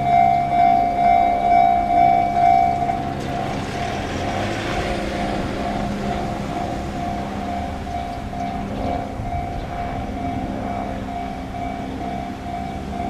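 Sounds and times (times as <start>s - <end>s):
approaching train running: 0.0s - 13.0s
level-crossing warning bell: 0.0s - 13.0s.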